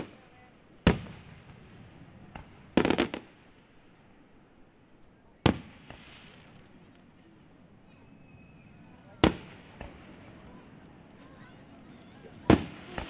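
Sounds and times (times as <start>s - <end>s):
fireworks bangs: 0.0s - 4.2s, 5.4s - 7.1s, 8.1s - 13.0s
small fireworks pops: 0.0s - 4.4s, 5.0s - 13.0s.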